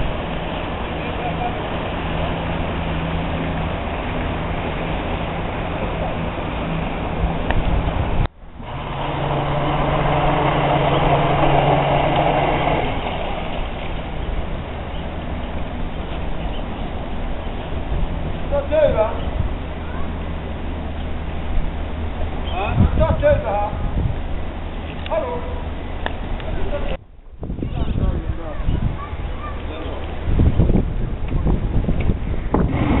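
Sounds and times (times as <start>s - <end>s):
boat engine running: 0.0s - 27.0s
rush of wind or water: 0.0s - 33.0s.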